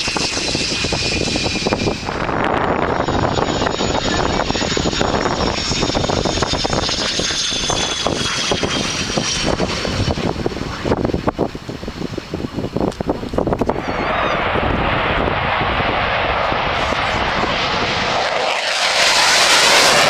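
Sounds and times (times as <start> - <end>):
jet roar with falling whine: 0.0 - 20.0.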